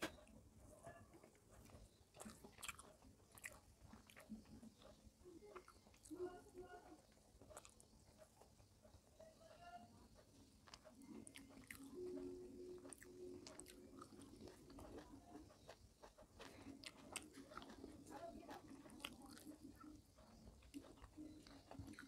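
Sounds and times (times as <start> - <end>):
faint low hum: 0.0 - 22.0
person chewing food: 1.1 - 22.0.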